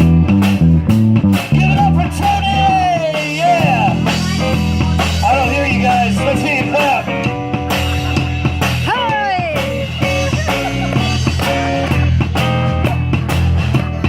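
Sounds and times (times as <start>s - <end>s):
bending lead guitar line: 0.0s - 14.0s
live rock blues band: 0.0s - 14.0s.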